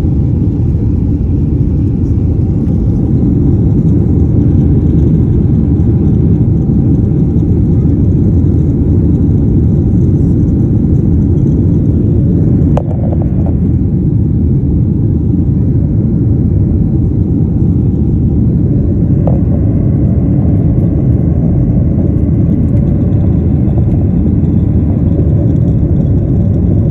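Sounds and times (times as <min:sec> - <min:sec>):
jet engines rumbling: 0:00.0 - 0:26.9.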